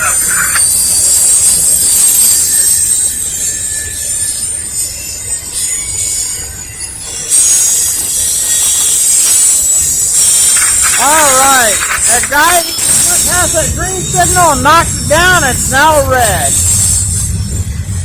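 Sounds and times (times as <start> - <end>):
freight train rumble: 0.0 - 18.0
train wheels squealing on rails: 0.0 - 18.0.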